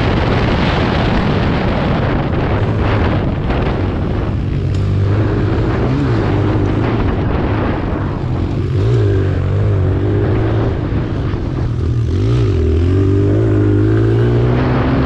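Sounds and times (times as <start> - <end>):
loud rushing noise: 0.0 - 15.0
motorbike engine revving: 0.0 - 15.0.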